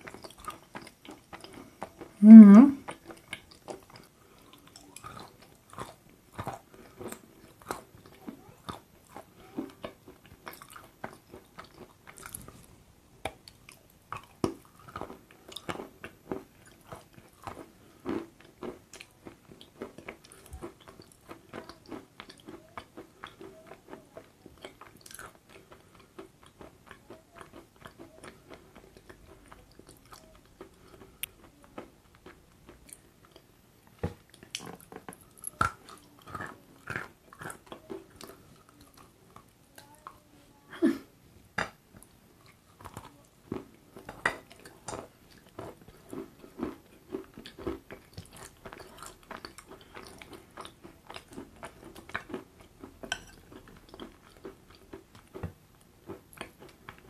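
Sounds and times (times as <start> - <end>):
person chewing: 0.0 - 12.7, 13.3 - 40.2, 41.6 - 57.0.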